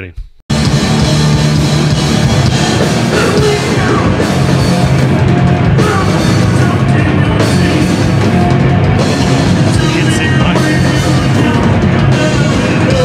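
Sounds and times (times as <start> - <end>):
drum kit hit hard: 0.5 - 13.0
heavy rock bass and drums: 0.5 - 13.0.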